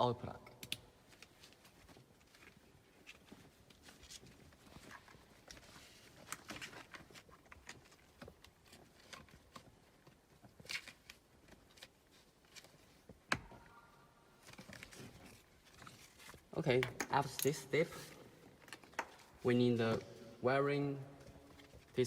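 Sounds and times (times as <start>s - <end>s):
wiring harness rustling and clicking: 0.4s - 20.2s.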